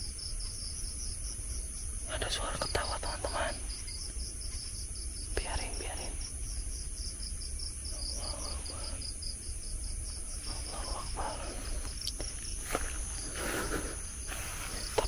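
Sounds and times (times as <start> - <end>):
cricket chirping: 0.0 - 15.0
high-pitched insect trill: 0.0 - 15.0.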